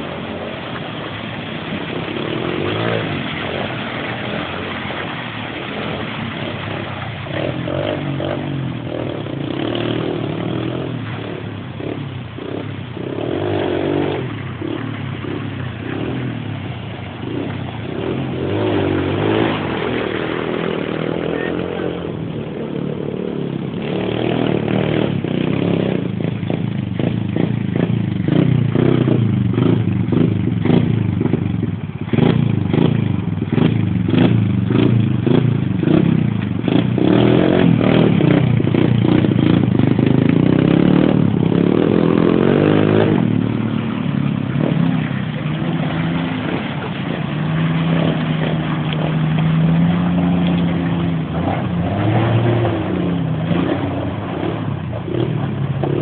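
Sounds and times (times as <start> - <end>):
off-road engines revving: 0.0 - 56.0.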